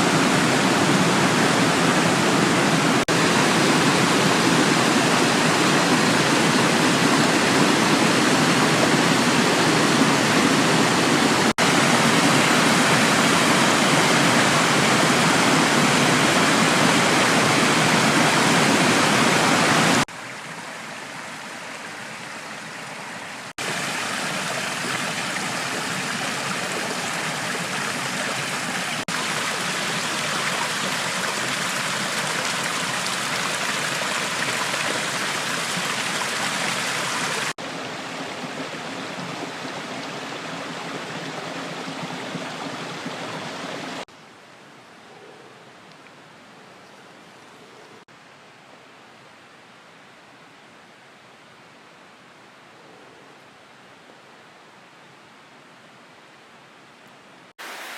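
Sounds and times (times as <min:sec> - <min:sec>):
waterfall and stream rushing: 0:00.0 - 0:44.2, 0:55.4 - 0:57.9.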